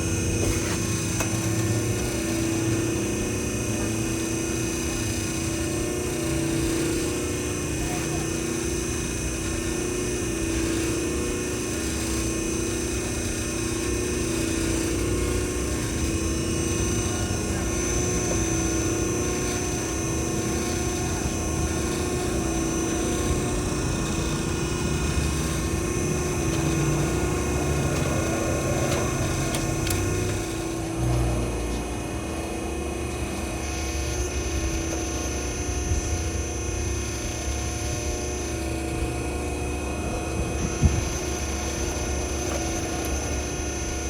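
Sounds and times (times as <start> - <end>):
machine drone with whining tones: 0.0 - 44.0.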